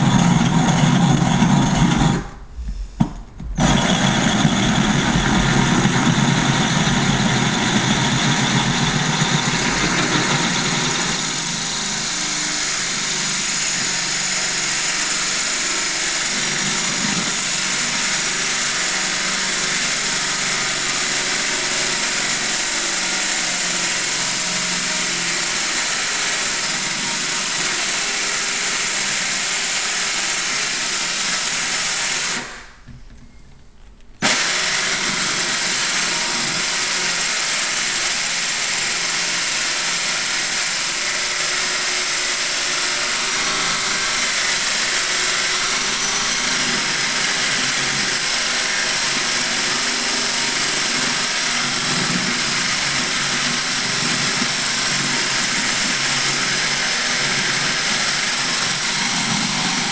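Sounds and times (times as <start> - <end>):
drill core bit grinding stone: 0.0 - 32.6, 34.2 - 59.9.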